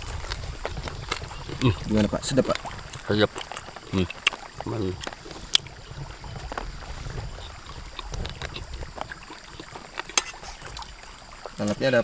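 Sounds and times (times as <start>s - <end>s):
low rumble of shallow river: 0.0s - 12.0s.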